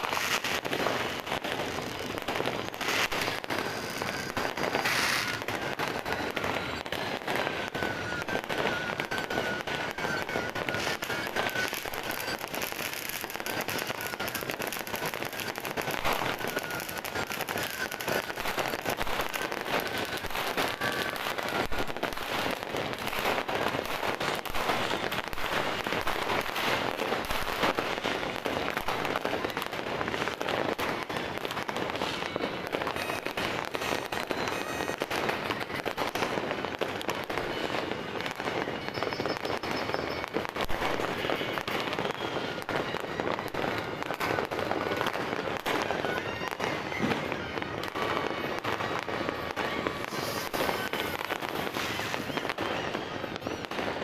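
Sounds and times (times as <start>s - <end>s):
firecrackers popping and crackling: 0.0s - 54.0s.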